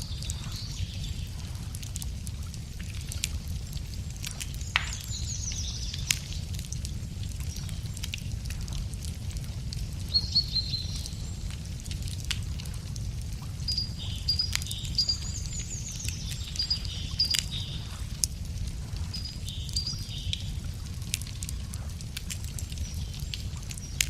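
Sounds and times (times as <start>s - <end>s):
small birds singing: 0.0s - 2.2s, 3.2s - 8.2s, 9.7s - 18.2s, 19.0s - 21.6s, 22.6s - 24.0s
campfire crackling: 0.0s - 24.0s.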